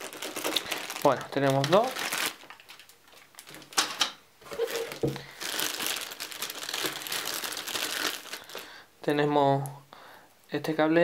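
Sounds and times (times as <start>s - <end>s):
plastic bags crinkling: 0.0s - 8.9s.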